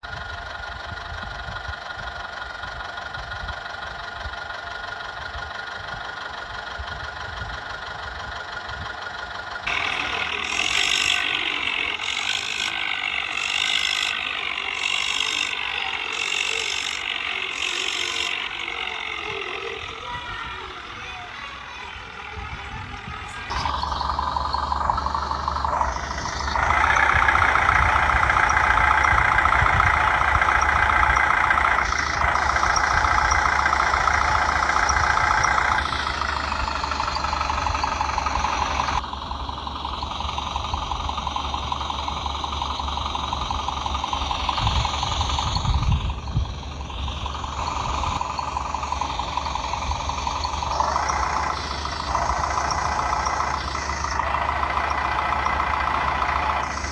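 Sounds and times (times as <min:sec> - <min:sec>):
motor whining and humming: 0:09.6 - 0:56.9.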